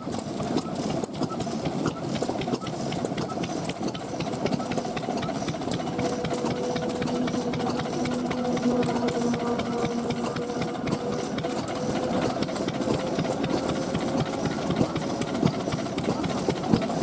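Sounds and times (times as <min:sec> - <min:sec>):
stationary engines clattering: 0:00.0 - 0:17.0
mechanical whine: 0:00.6 - 0:17.0.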